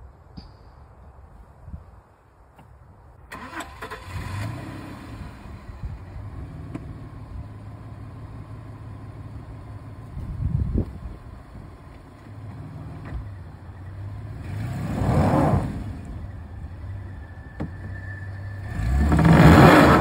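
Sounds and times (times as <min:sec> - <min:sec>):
car engine starting and idling: 0:03.2 - 0:20.0.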